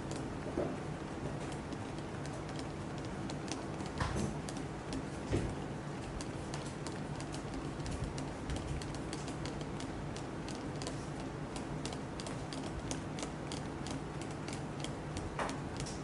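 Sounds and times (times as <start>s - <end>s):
low mechanical hum: 0.0s - 16.0s
light clicks and taps: 0.1s - 16.0s.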